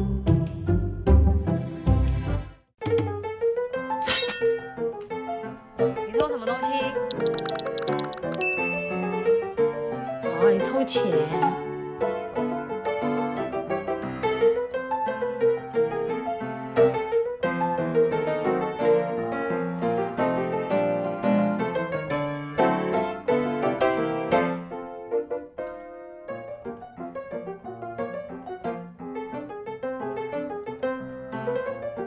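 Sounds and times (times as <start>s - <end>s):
piano music: 2.8s - 32.0s.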